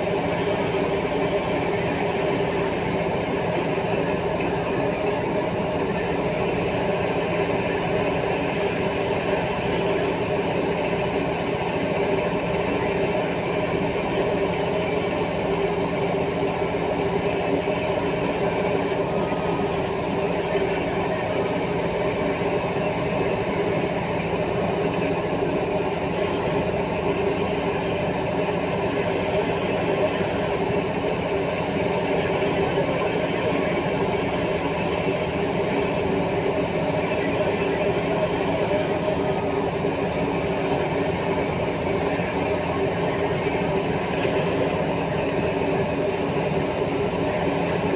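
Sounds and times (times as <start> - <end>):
diesel machinery engine drone: 0.0 - 47.9.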